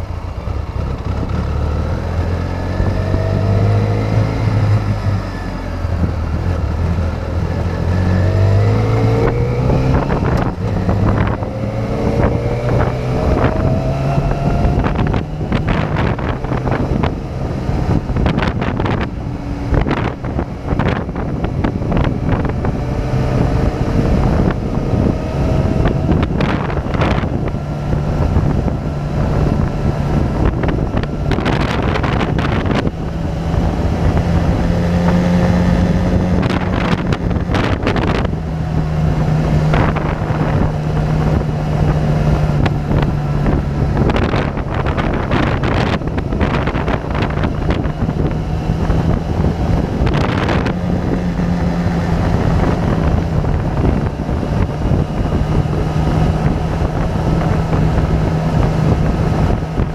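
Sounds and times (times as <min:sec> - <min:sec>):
motorcycle engine humming: 0:00.0 - 0:59.9
wind buffeting microphone: 0:00.0 - 0:59.9.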